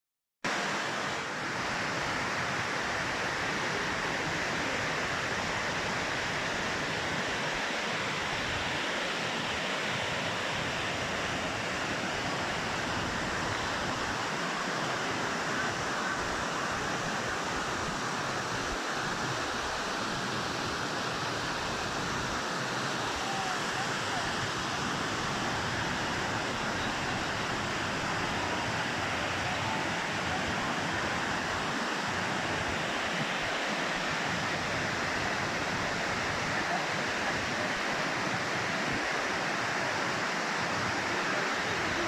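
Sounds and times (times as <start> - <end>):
rushing water: 0.5 - 42.0.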